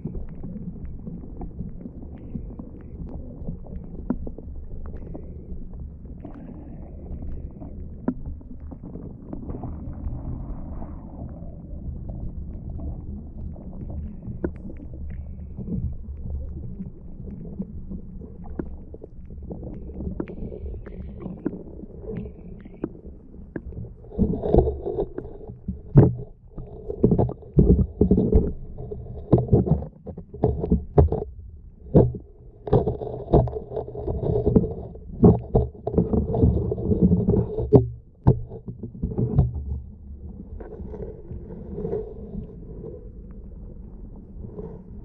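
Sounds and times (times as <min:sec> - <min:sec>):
underwater knocks and swishes: 0:00.0 - 0:45.0
underwater rumble of moving water: 0:00.0 - 0:45.0.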